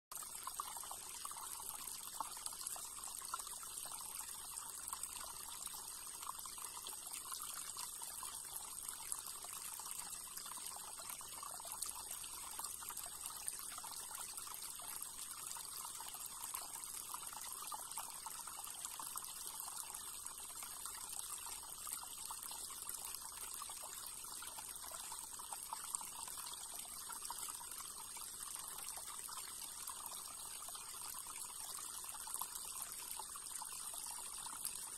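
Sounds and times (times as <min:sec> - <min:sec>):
stream trickling over stones: 0:00.1 - 0:34.9.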